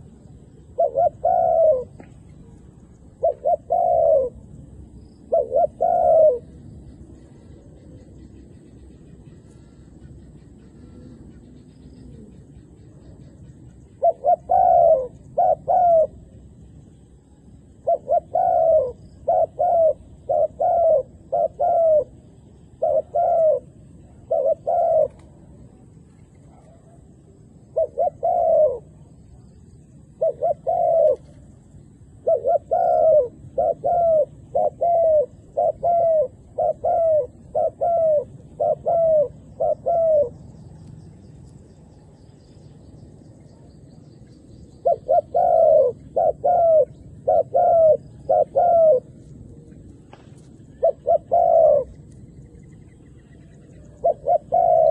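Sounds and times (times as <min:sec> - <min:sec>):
dove cooing: 0:00.0 - 0:08.2, 0:09.2 - 0:16.5, 0:17.6 - 0:29.3, 0:30.0 - 0:40.7, 0:44.7 - 0:54.9.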